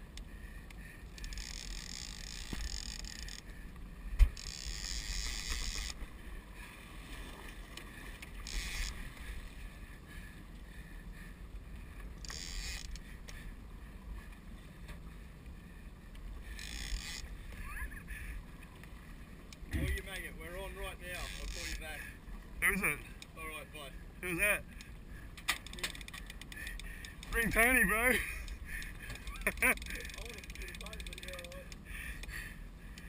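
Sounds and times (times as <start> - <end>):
boat wind and water rumble: 0.0 - 33.0.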